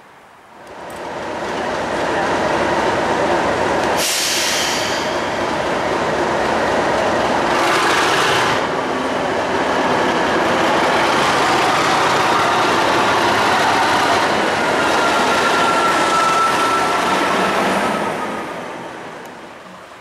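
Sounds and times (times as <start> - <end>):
diesel locomotive engine running: 0.7 - 18.7.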